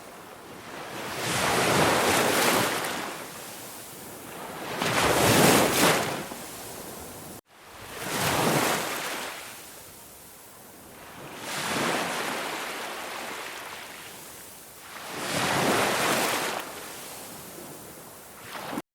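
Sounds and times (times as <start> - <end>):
ocean waves breaking: 0.0 - 9.6, 11.0 - 18.8.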